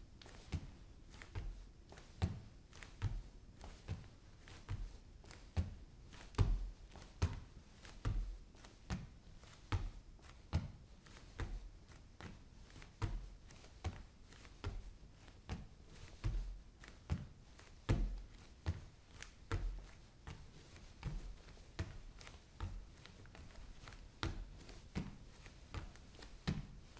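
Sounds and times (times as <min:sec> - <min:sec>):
bare footsteps on wooden floor: 0:00.2 - 0:10.8, 0:15.5 - 0:26.9.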